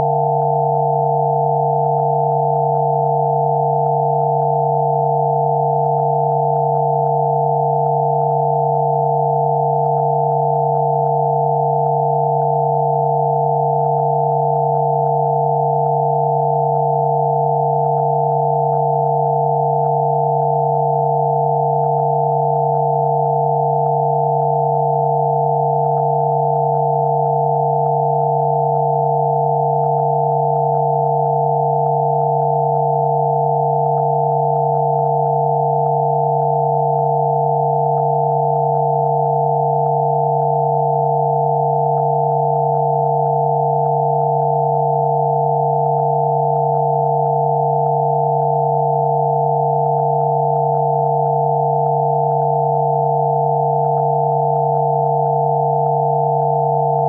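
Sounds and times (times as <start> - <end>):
high sine tones cluster: 0.0 - 57.0
low sine tone: 0.0 - 57.0.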